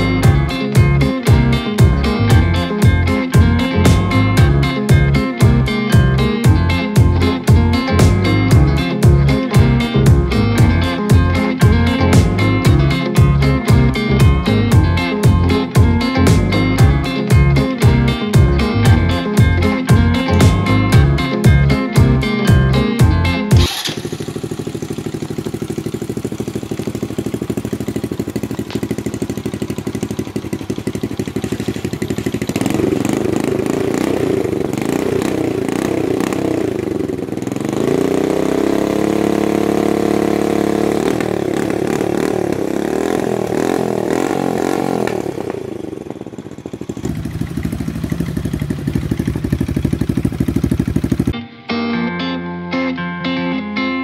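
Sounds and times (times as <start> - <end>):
motorcycle engine revving: 0.0 - 51.4.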